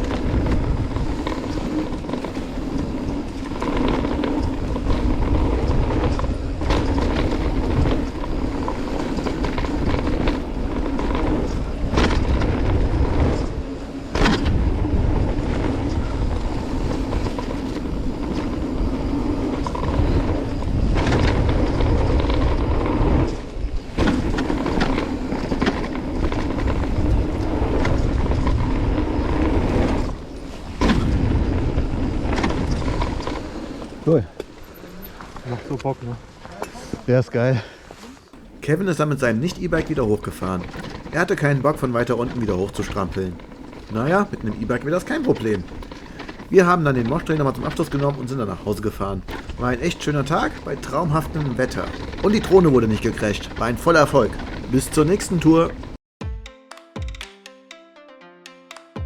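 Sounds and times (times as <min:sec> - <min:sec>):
bike clattering and rattling: 0:00.0 - 0:37.0, 0:37.6 - 0:56.0
bike tyres rumbling on dirt: 0:00.0 - 0:56.0.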